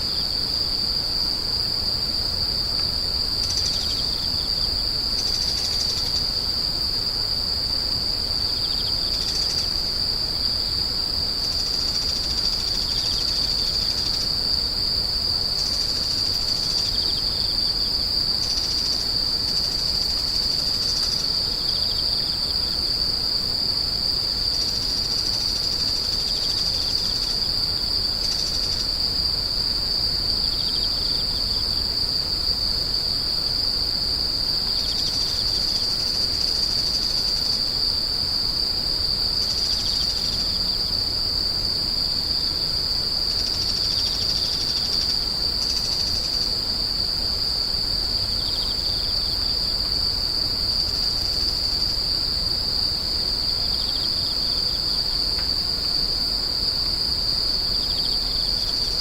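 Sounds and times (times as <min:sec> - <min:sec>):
insects trilling: 0:00.0 - 0:59.0
other insects calling: 0:00.0 - 0:59.0.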